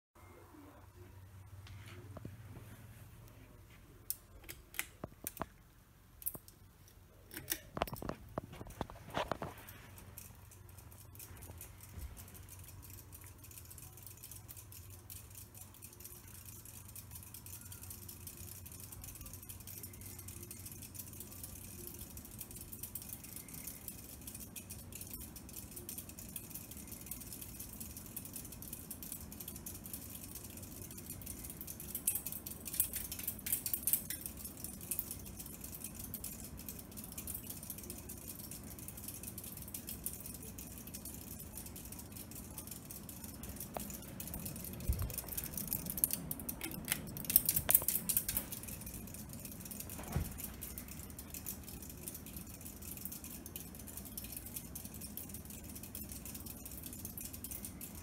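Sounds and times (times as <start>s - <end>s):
ceiling fan rattling: 0.6s - 58.0s.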